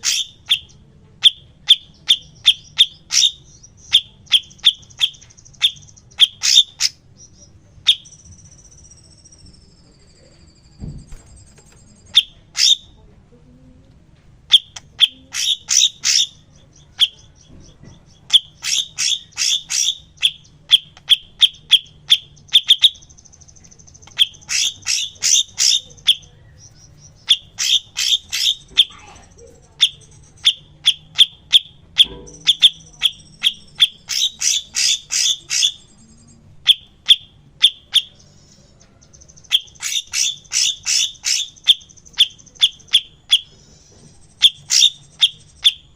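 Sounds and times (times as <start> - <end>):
bird chipping notes: 0.0 - 13.0, 14.4 - 45.9.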